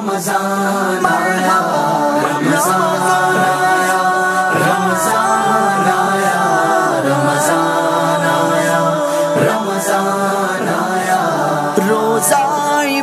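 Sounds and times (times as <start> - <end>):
layered voices singing: 0.0 - 13.0.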